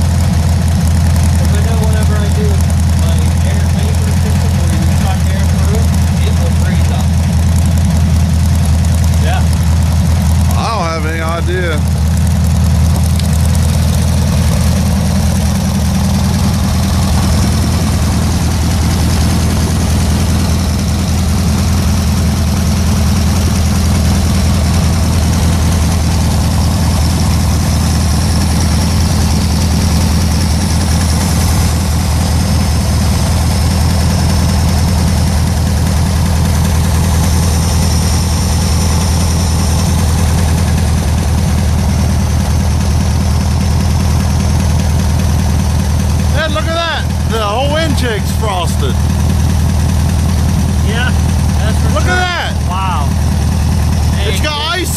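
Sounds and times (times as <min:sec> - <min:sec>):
flat-four engine idling: 0:00.0 - 0:54.9.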